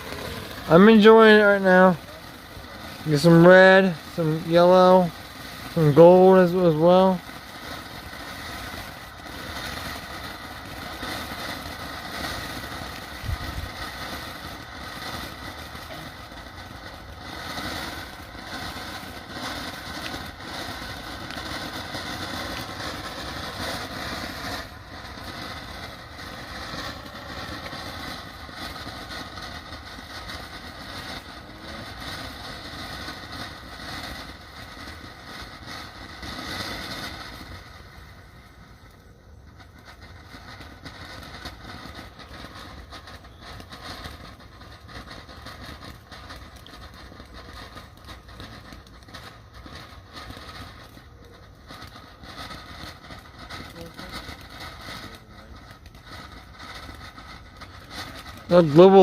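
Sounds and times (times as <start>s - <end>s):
firework crackle: 0.0s - 59.0s
firework spraying hiss: 0.0s - 59.0s.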